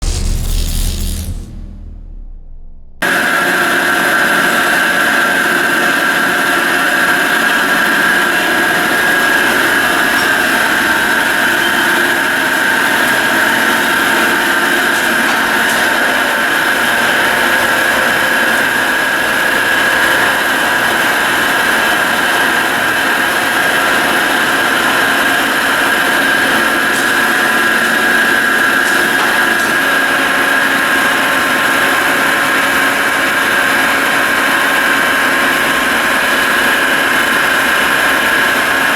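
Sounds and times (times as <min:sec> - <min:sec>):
mechanical hum: 0:00.0 - 0:38.9
drill press whining: 0:03.0 - 0:38.9.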